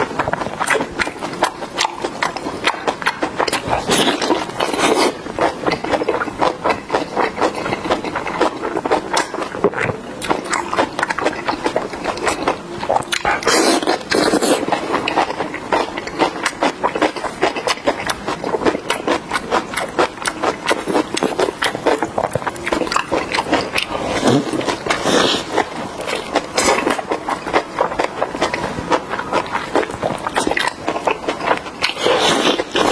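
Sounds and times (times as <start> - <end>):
wet chewing and crunching: 0.0 - 32.9.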